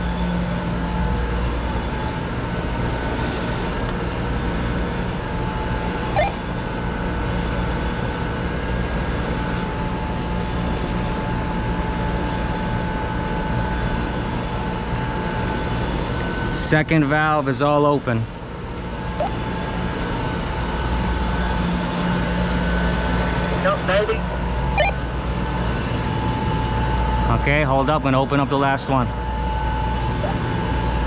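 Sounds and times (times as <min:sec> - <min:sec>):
machinery hum: 0:00.0 - 0:31.0.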